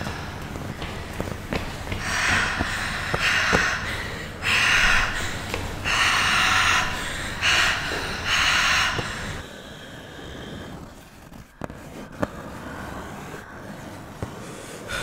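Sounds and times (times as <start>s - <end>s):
person breathing heavily: 0.0s - 15.0s.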